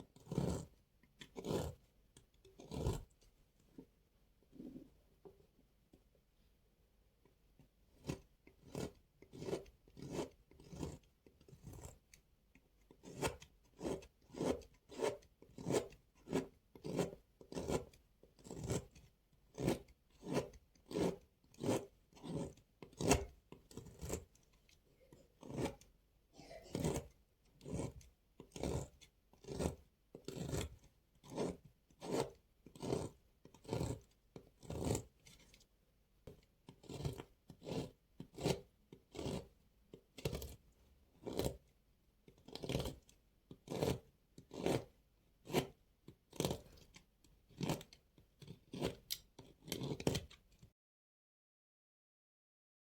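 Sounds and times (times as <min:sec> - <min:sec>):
knife crunching through soap: 0:00.0 - 0:03.2, 0:07.9 - 0:35.7, 0:36.3 - 0:50.7.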